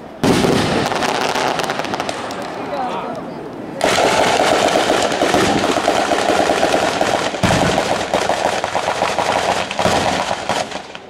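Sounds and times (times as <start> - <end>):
deeper firecracker bang: 0.2 - 2.6, 3.8 - 11.0
firecrackers banging rapidly: 0.2 - 2.6, 3.8 - 11.0.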